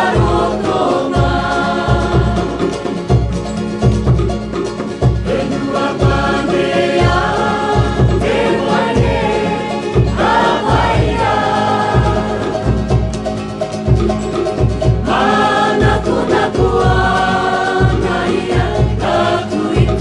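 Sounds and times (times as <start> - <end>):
group singing in harmony: 0.0 - 3.8, 4.5 - 20.0
regular drum beat: 0.0 - 20.0
strummed ukuleles: 0.0 - 20.0.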